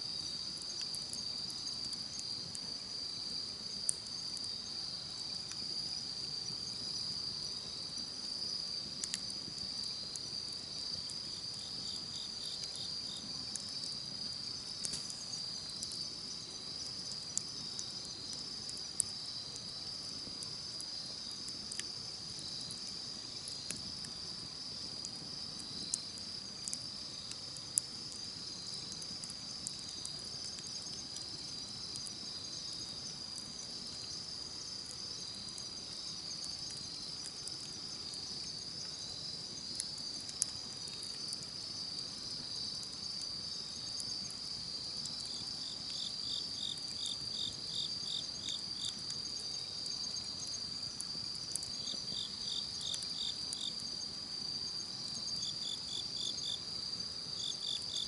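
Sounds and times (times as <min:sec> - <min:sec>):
crickets chirping: 0:00.0 - 0:58.0
campfire crackling: 0:00.1 - 0:55.9.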